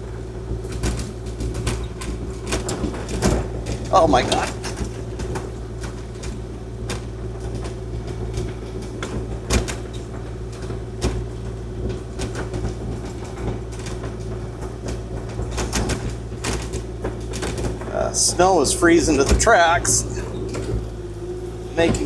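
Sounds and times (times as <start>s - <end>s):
excavator diesel engine running: 0.0s - 22.0s
machine knocks and rattles: 0.0s - 22.0s.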